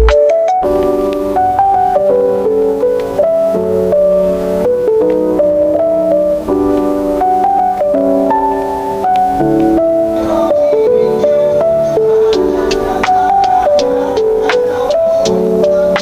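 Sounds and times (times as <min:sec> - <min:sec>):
keyboard chords and melody: 0:00.0 - 0:16.0.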